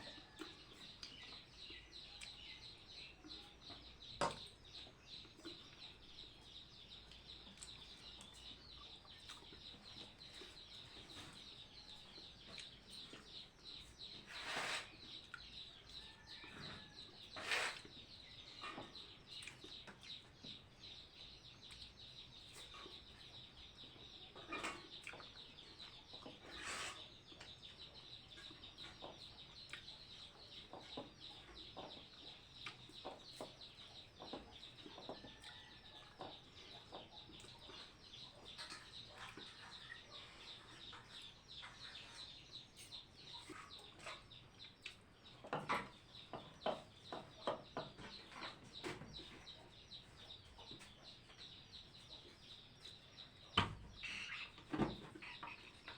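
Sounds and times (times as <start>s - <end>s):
chickens clucking: 0.0s - 21.1s, 22.4s - 55.9s.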